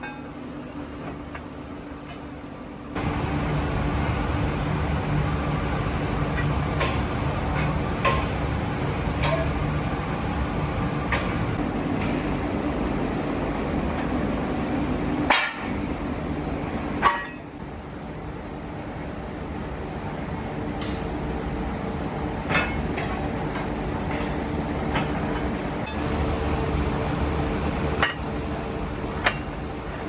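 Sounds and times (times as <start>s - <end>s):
factory machinery humming: 0.0s - 30.0s.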